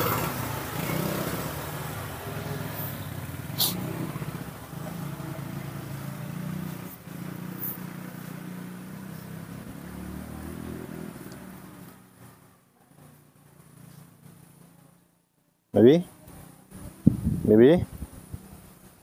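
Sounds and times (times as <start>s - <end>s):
motor vehicle engine hum: 0.0s - 15.4s.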